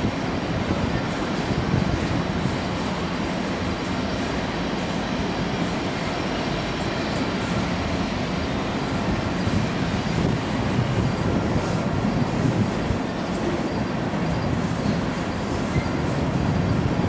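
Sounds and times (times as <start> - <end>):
train wheels rolling on track: 0.0 - 17.0.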